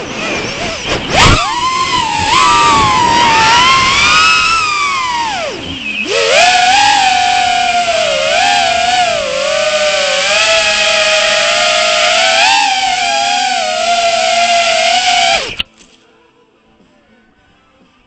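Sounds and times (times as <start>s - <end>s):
drone motors whining: 0.0s - 15.7s.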